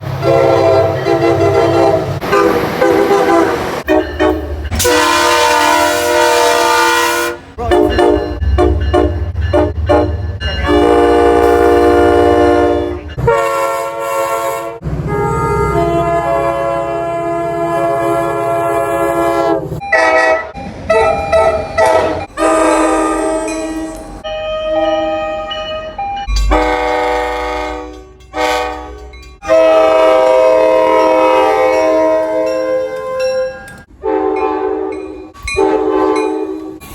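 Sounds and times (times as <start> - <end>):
train horns sounding chords: 0.0 - 25.6, 26.3 - 36.8.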